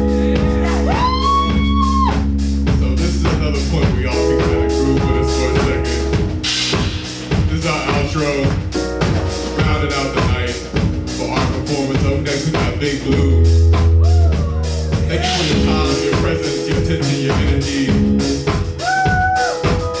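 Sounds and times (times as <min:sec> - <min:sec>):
drum kit beat: 0:00.0 - 0:20.0
keyboard notes: 0:00.0 - 0:20.0
sustained bass notes: 0:00.0 - 0:20.0.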